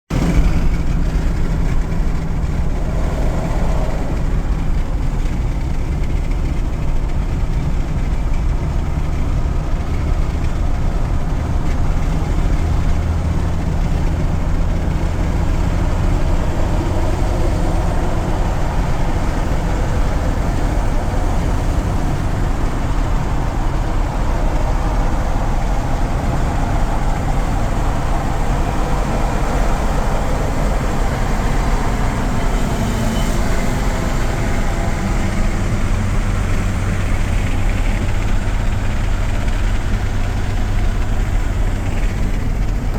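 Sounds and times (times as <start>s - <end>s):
diesel truck engine rumbling: 0.1s - 42.9s.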